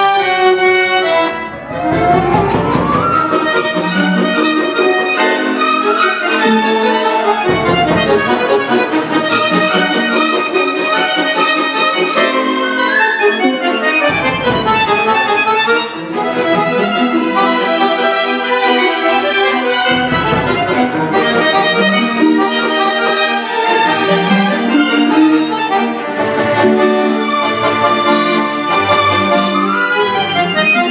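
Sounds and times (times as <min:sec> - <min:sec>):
accordion solo: 0:00.0 - 0:30.9
orchestral winds and strings: 0:00.0 - 0:30.9.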